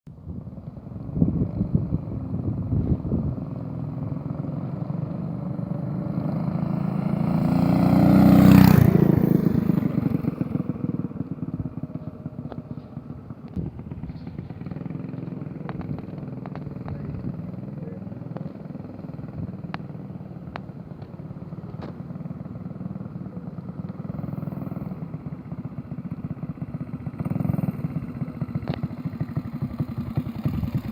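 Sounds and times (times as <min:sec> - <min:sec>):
small engine passing: 0:00.2 - 0:30.9.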